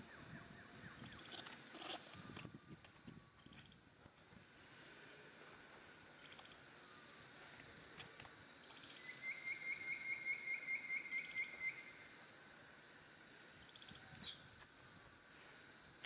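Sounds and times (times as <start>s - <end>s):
high insect whine: 0.0s - 16.0s.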